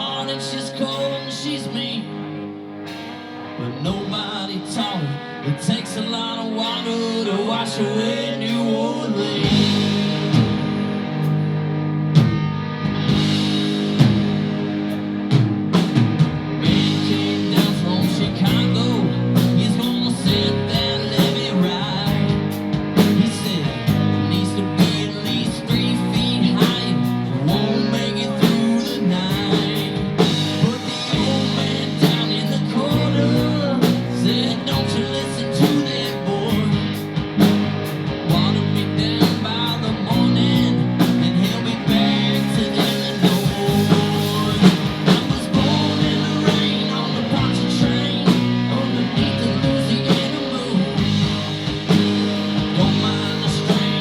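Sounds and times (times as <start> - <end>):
electric guitar lines: 0.0 - 54.0
live rock band playing: 0.0 - 54.0.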